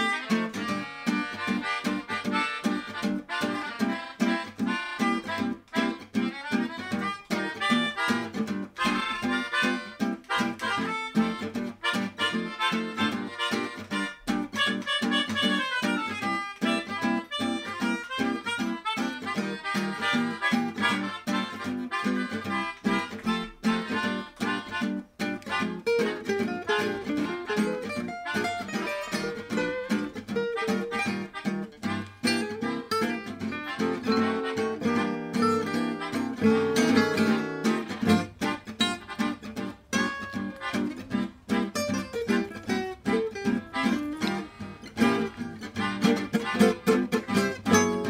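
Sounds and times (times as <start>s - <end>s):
acoustic guitar strumming: 0.0s - 48.0s
melodica playing melody: 0.0s - 48.0s.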